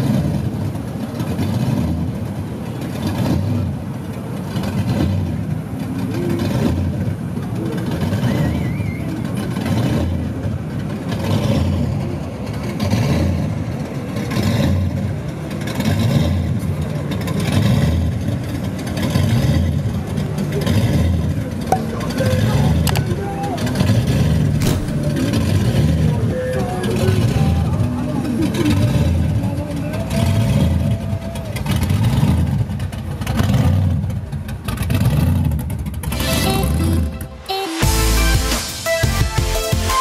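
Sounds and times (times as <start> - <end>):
car engines rumbling past: 0.0 - 38.9.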